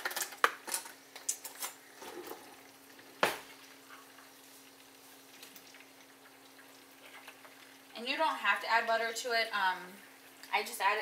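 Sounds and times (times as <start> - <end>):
food sizzling in oil: 0.1 - 11.0.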